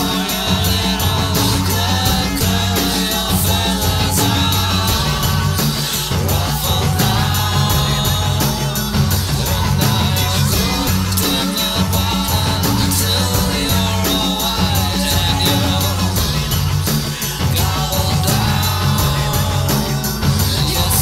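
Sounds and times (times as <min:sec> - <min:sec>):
rock song: 0:00.0 - 0:21.0.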